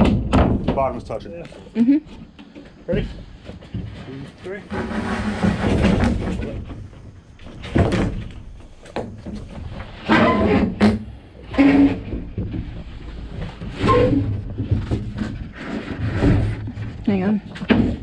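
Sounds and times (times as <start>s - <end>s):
plywood scraping and knocking: 0.0s - 18.0s.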